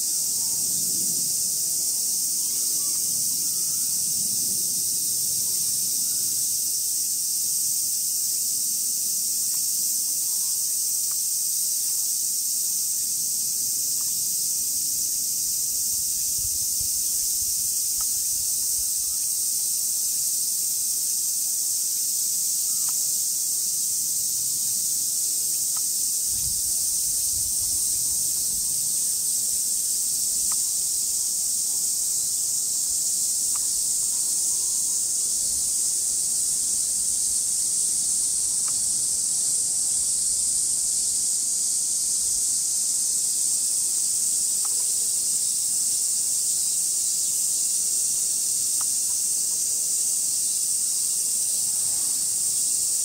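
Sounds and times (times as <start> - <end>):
cicadas chorus: 0.0 - 53.0.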